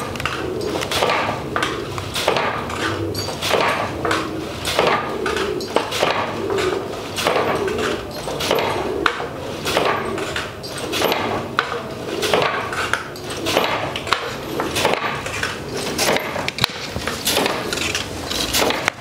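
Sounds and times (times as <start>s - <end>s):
wooden loom clacking: 0.0s - 19.0s.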